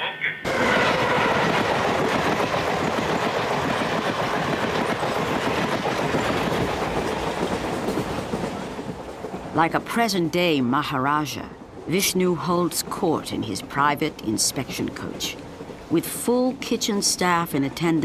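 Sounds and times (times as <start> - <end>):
train rumbling: 0.1 - 18.0.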